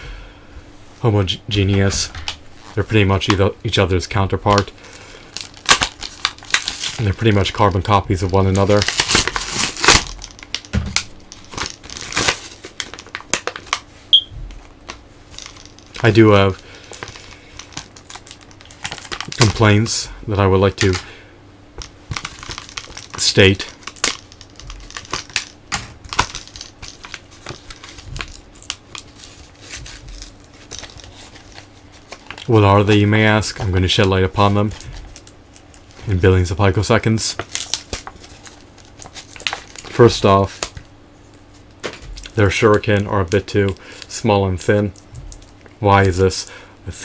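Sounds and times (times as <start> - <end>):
plastic packaging crinkling: 2.4 - 13.9, 14.6 - 21.1, 21.8 - 46.5.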